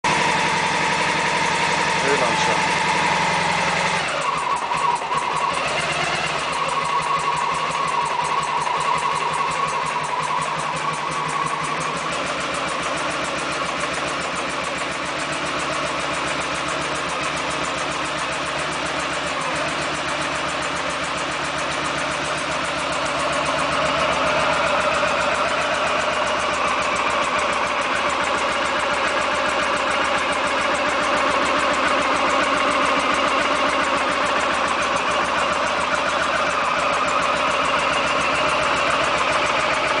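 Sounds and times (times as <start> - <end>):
motorcycle engine idling: 0.0 - 40.0.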